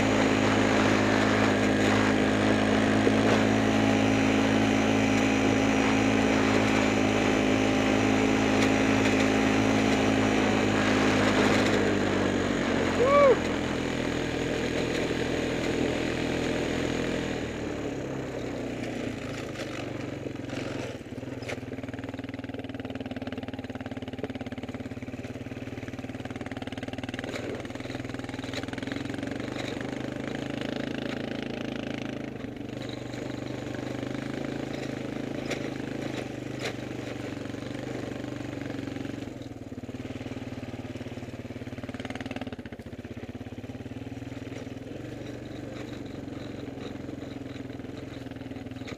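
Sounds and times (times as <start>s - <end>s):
small engine running: 0.0s - 48.9s.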